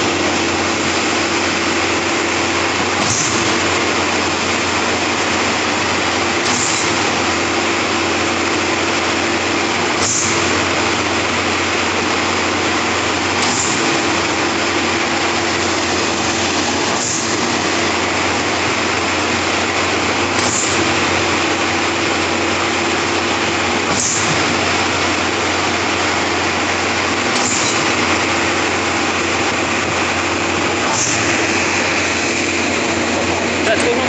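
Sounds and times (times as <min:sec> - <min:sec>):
diesel concrete pump running: 0:00.0 - 0:34.0
pump knocking: 0:00.0 - 0:34.0.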